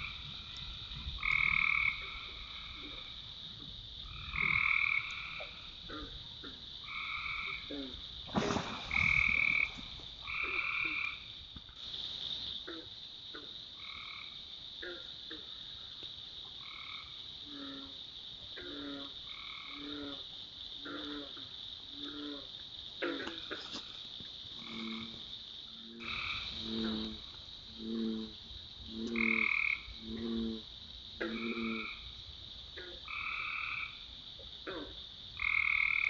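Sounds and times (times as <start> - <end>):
frogs croaking: 0.0 - 36.0
rustle: 0.0 - 36.0.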